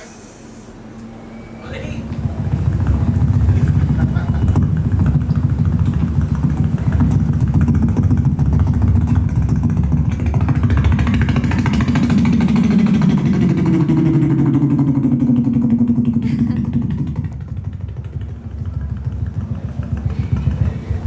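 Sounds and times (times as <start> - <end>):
beatboxing helicopter imitation: 2.5 - 21.0.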